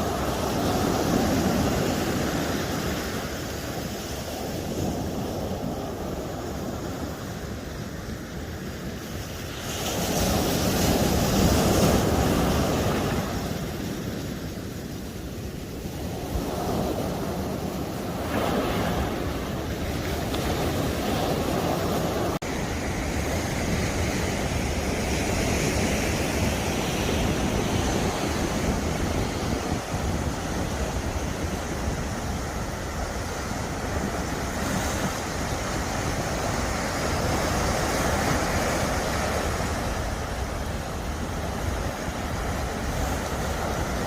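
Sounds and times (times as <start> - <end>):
wind rumbling on microphone: 0.0 - 44.0.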